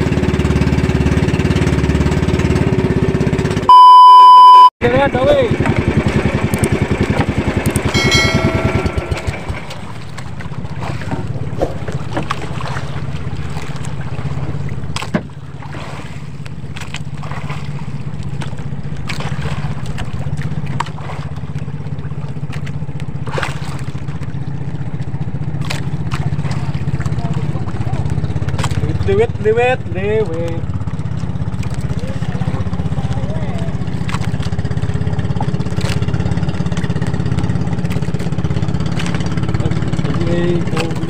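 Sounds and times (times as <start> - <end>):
boat engine pulsing drone: 0.0 - 41.0.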